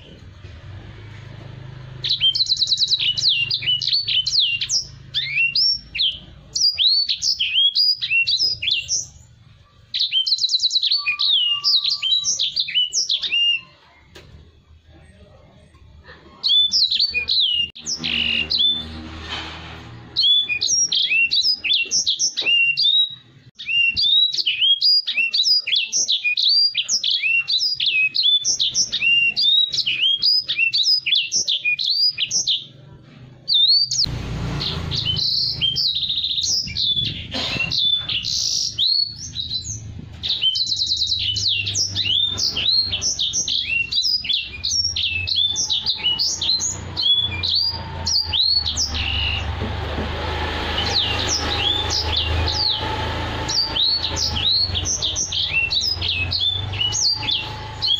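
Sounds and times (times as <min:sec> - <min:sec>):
finch singing twittering song: 0:01.1 - 0:13.9, 0:16.4 - 0:19.1, 0:20.1 - 0:32.8, 0:33.5 - 0:57.9.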